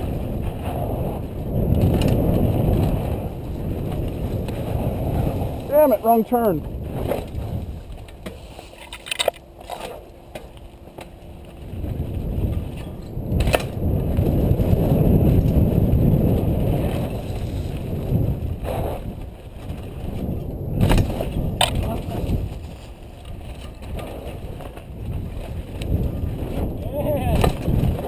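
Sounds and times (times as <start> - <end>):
bike knocks and rattles: 0.0 - 5.6, 6.6 - 28.0
bike tyres crunching over dirt: 0.0 - 28.0.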